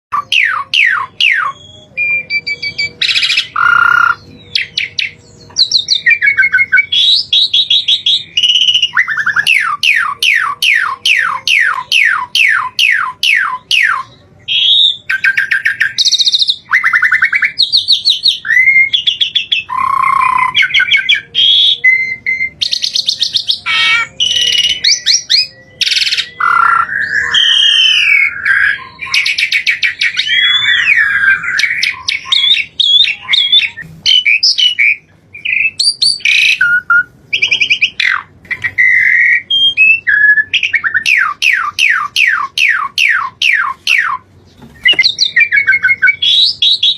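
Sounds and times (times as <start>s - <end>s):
songbird singing trills and whistles: 0.1s - 46.9s.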